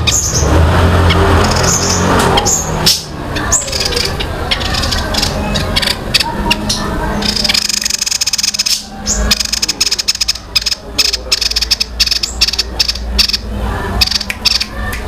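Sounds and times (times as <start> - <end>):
songbird fast clicking song: 1.1 - 15.0.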